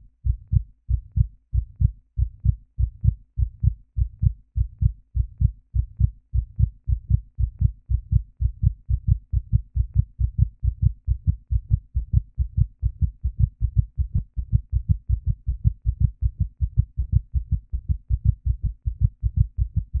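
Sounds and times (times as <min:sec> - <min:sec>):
heartbeat thumps: 0:00.0 - 0:20.0.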